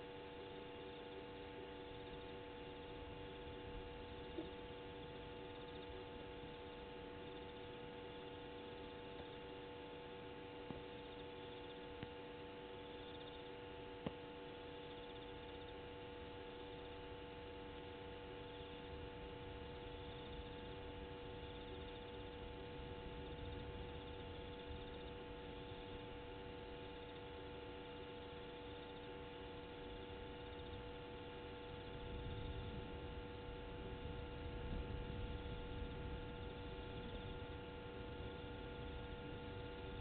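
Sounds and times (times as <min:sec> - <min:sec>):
faint electrical hum: 0:00.0 - 0:40.0.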